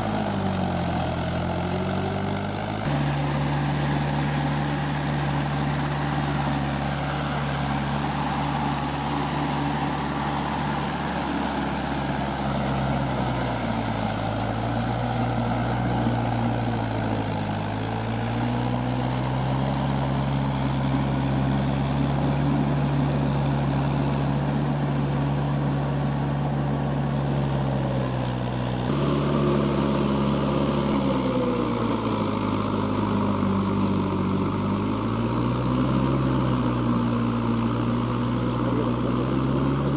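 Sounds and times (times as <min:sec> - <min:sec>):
tractor diesel engine under load: 0:00.0 - 0:39.9
wheels churning through mud: 0:00.0 - 0:39.9.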